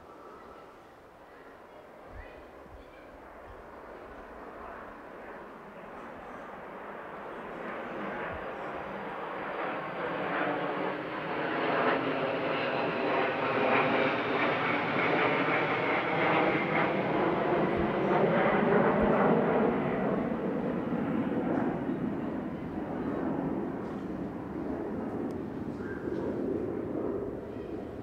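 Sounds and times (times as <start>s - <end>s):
airplane engine drone: 0.0s - 1.2s, 3.9s - 28.0s.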